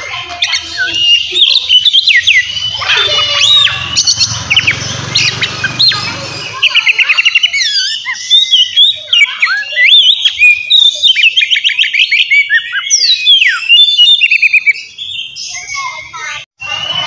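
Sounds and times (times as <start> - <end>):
magpie-robin singing: 0.0 - 17.0.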